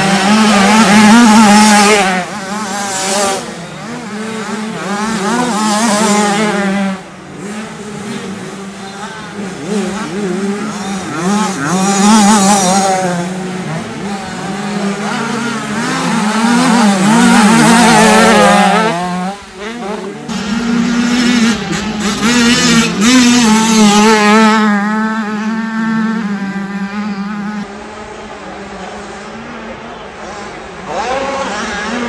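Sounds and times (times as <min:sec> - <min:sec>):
motorbike passing close: 0:00.0 - 0:29.4
motocross bikes revving: 0:00.0 - 0:32.0.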